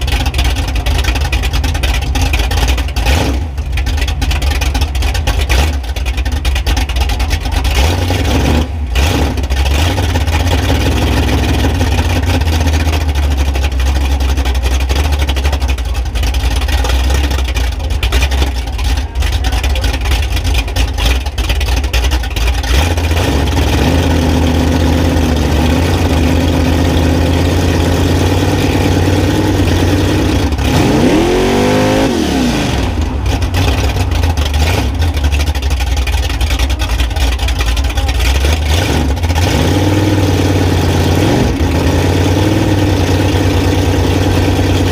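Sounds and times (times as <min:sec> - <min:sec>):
truck engine running loud and low: 0:00.0 - 0:44.9.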